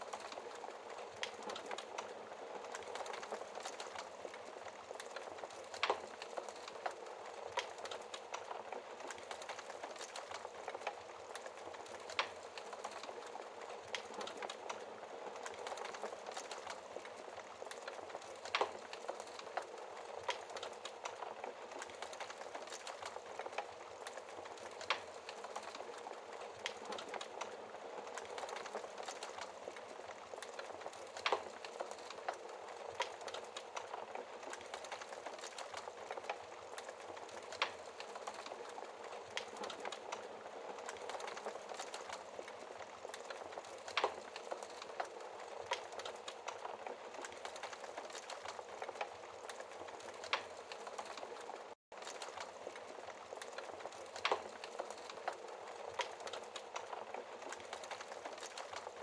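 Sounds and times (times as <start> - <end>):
burning wood popping: 0.0 - 59.0
wood fire crackling: 0.0 - 59.0.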